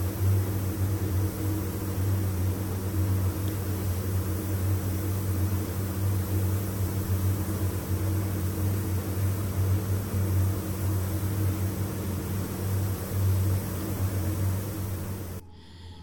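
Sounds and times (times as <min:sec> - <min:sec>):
spray gun hissing: 0:00.0 - 0:15.4
ventilation fans humming: 0:00.0 - 0:15.5.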